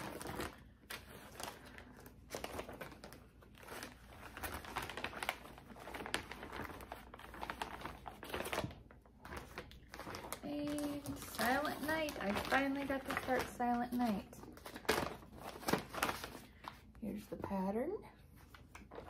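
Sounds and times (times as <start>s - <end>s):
plastic and paper crinkling: 0.0s - 17.6s, 18.3s - 19.0s.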